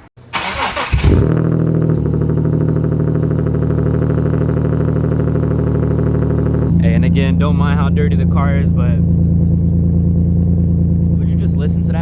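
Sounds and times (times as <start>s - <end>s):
car engine idling: 0.2s - 12.0s.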